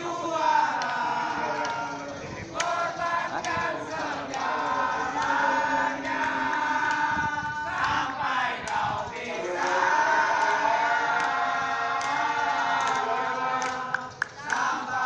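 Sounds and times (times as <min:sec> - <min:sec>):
crowd singing a chant: 0:00.0 - 0:15.0.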